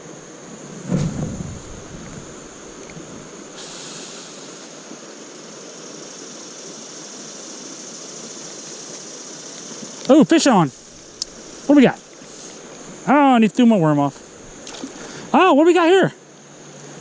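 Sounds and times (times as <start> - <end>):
creek water over rocks: 1.6 - 17.0.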